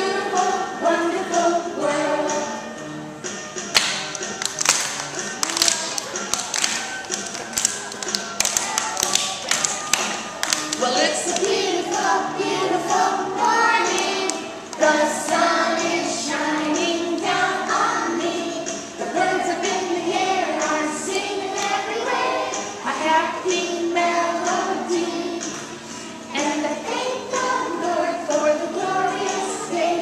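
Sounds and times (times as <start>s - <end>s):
children singing: 0.0s - 3.7s, 5.2s - 30.0s.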